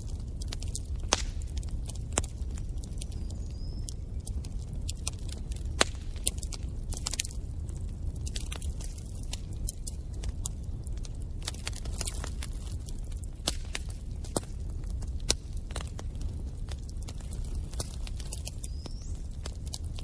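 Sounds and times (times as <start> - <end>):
low rumble of flames: 0.0 - 20.0
wood fire pops and snaps: 0.0 - 20.0.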